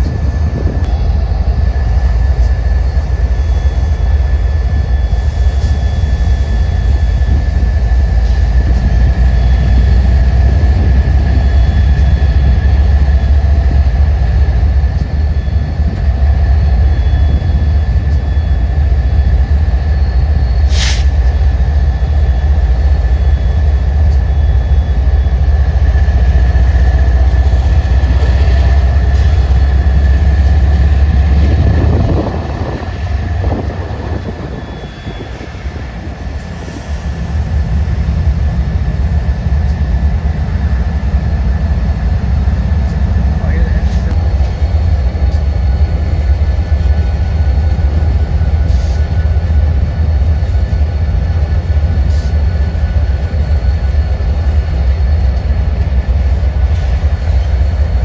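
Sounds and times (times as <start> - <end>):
steady high whine: 0.0 - 58.0
train rumbling by: 0.0 - 58.0.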